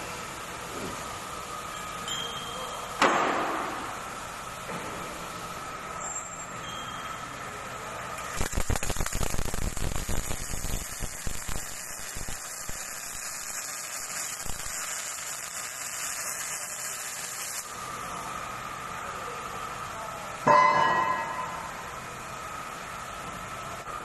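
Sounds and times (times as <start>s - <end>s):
welding arc crackling and hissing: 0.0s - 6.0s, 7.0s - 20.5s.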